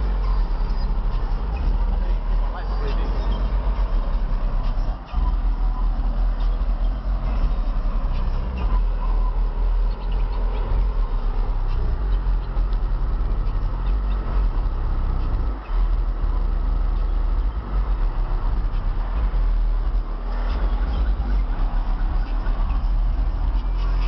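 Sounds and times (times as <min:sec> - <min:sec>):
loud music with deep bass: 0:00.0 - 0:24.0.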